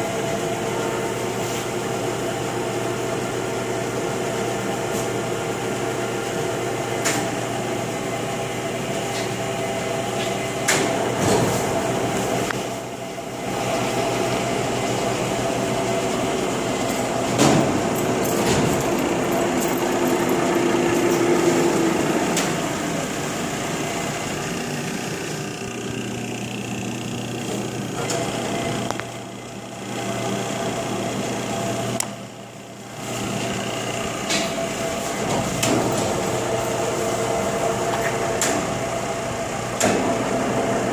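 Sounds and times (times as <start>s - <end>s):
lathe running with mechanical hum: 0.0s - 40.9s.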